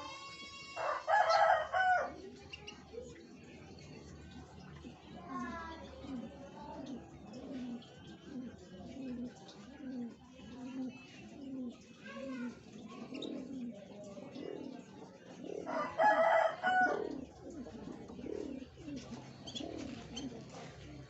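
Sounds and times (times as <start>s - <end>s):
doves cooing: 0.8s - 21.0s.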